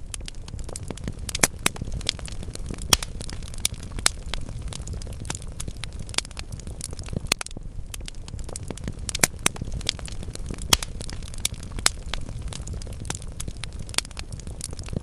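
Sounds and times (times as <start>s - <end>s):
burning logs crackling: 0.0s - 15.0s
low rumble of flames: 0.0s - 15.0s.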